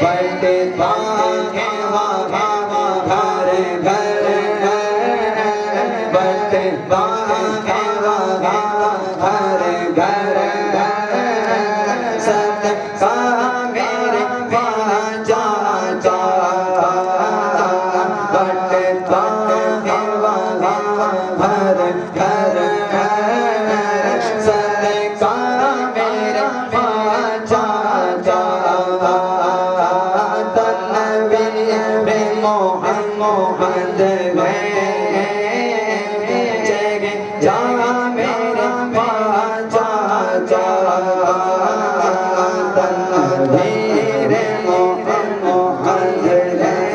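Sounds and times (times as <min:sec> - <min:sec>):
man singing devotional song: 0:00.0 - 0:46.9.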